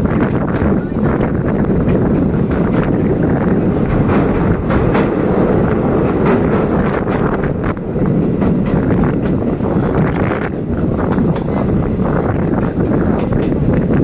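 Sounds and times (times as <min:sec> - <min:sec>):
train rumbling along track: 0:00.0 - 0:14.0
wheels clicking over rails: 0:00.0 - 0:14.0.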